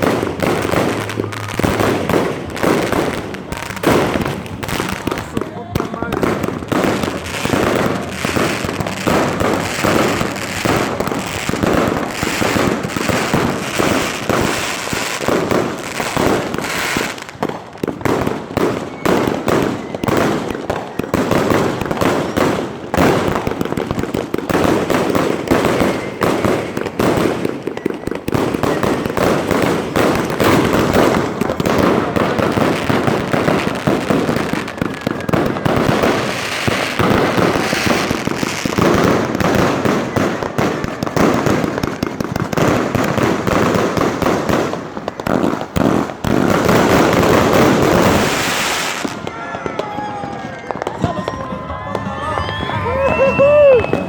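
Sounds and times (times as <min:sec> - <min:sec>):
firework cake firing rapid shots: 0:00.0 - 0:49.8.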